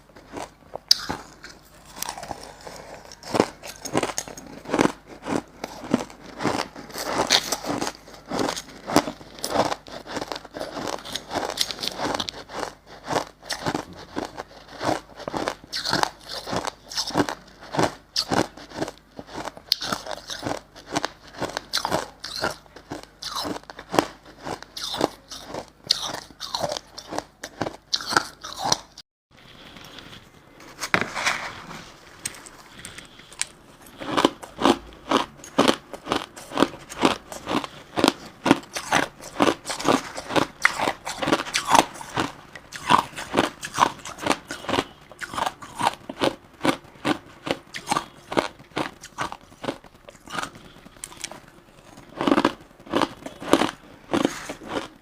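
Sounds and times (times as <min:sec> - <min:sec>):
chewing crushed ice: 0:00.0 - 0:31.0, 0:32.2 - 0:55.0.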